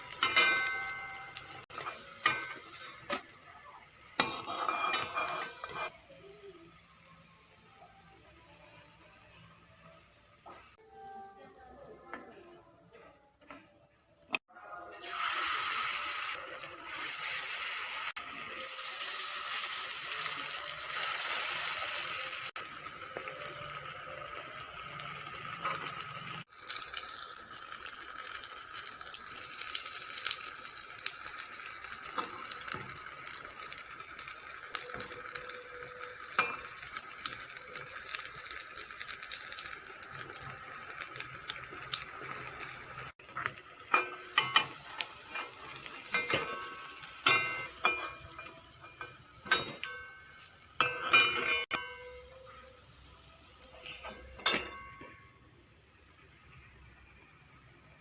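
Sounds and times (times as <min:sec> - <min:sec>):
food deep-frying in oil: 0:00.0 - 0:10.8, 0:14.9 - 0:58.0.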